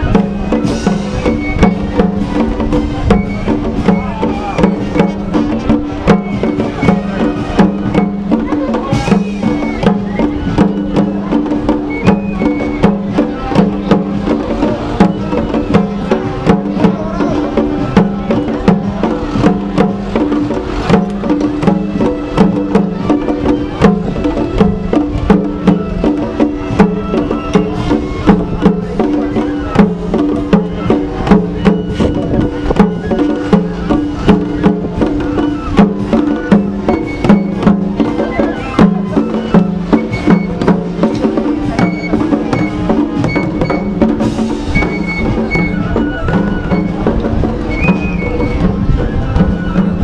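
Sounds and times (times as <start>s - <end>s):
held low melody: 0.0s - 50.0s
taiko drums: 0.0s - 50.0s.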